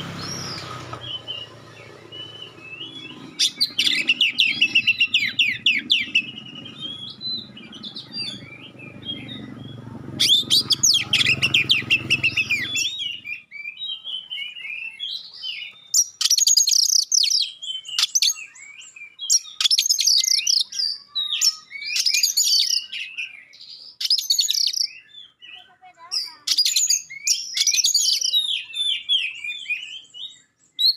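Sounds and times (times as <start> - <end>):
songbird chirping: 0.0 - 30.9.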